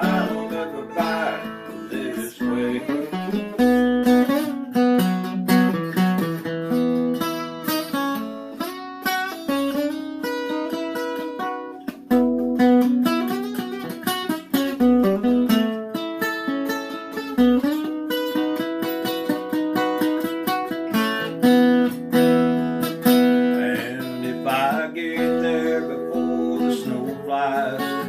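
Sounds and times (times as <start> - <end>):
acoustic guitar picking and strumming: 0.0 - 28.0.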